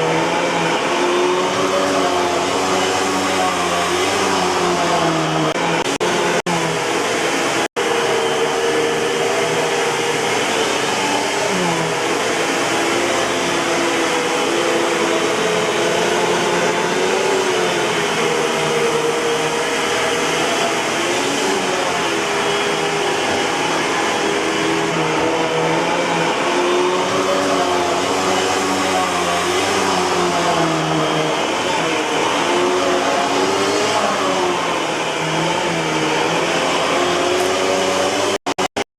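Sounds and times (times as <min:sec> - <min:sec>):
vacuum cleaner running: 0:00.0 - 0:38.8.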